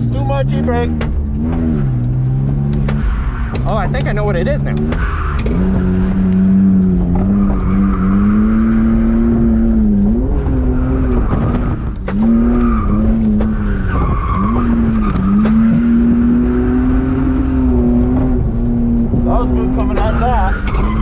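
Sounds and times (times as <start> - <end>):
car engine at high revs: 0.0 - 21.0
tires squealing: 0.0 - 21.0.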